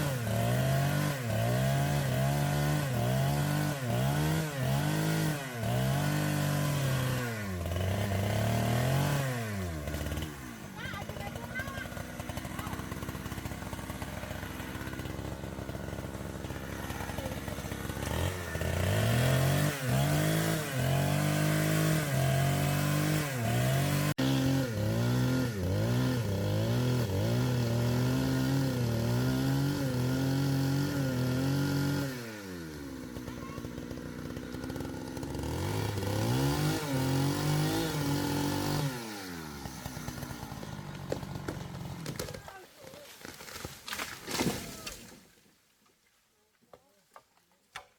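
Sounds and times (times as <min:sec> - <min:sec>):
small engine revving: 0:00.0 - 0:42.6.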